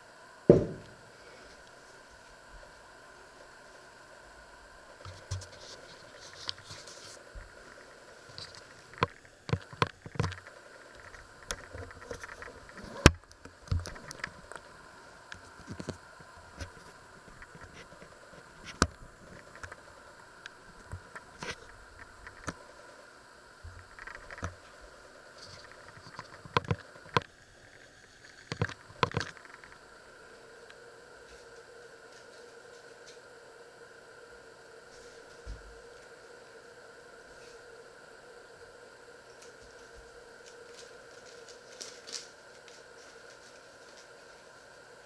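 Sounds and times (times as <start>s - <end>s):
faint background hum: 0.0s - 45.0s.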